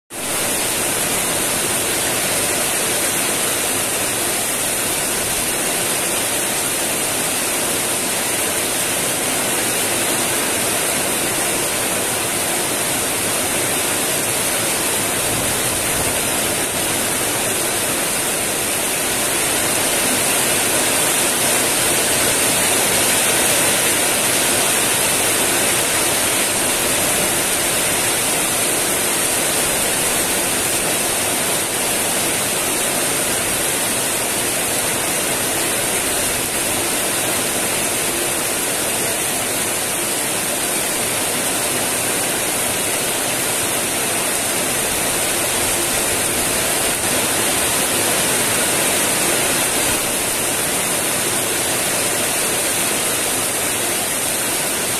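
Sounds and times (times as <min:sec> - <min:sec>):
heavy rain on tile roofs: 0:00.1 - 0:54.9
water streaming off eave: 0:00.1 - 0:54.9.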